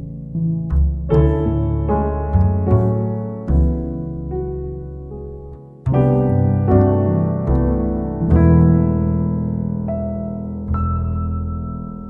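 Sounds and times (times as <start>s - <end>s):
jazz piano chords: 0.0s - 12.0s
low bass line: 0.0s - 12.0s.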